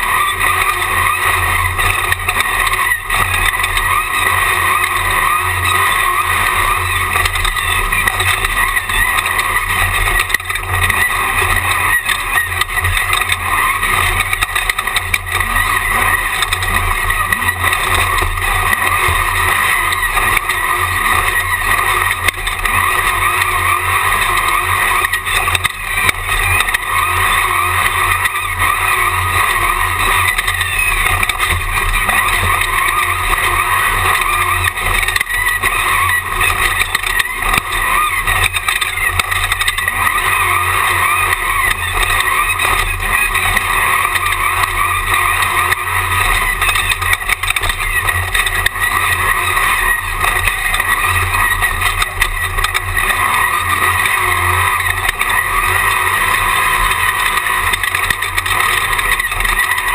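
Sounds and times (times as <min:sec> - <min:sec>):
race car engine drone: 0:00.0 - 0:59.9
road noise: 0:00.0 - 0:59.9.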